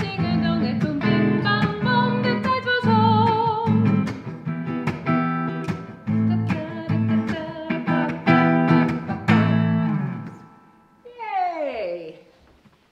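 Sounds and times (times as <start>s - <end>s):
electric guitar strumming chords: 0.0s - 10.9s.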